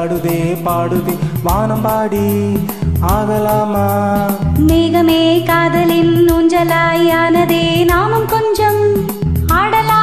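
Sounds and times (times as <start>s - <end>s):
instrumental film song backing track: 0.0s - 10.0s.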